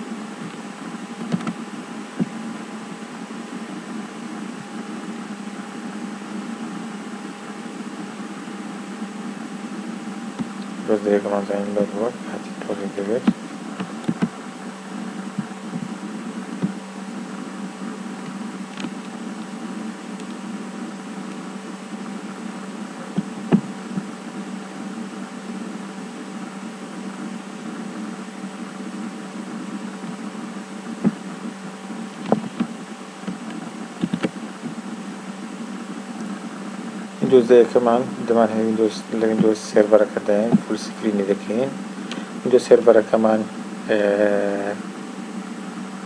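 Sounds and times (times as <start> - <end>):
room tone hum and hiss: 0.0 - 46.0.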